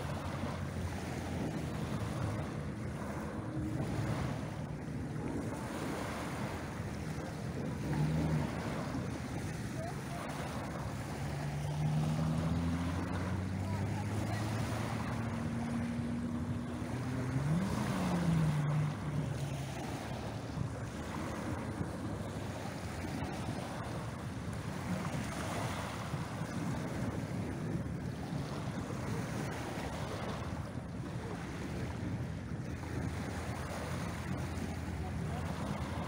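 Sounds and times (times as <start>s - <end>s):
boat engine humming: 0.0s - 36.0s
waves washing onto shingle: 0.0s - 36.0s.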